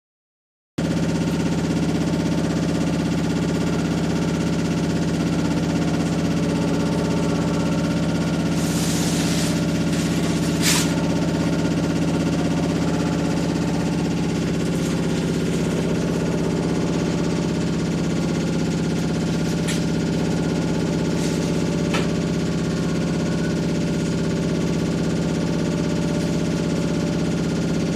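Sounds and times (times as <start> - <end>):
washing machine droning hum: 0.8 - 27.9.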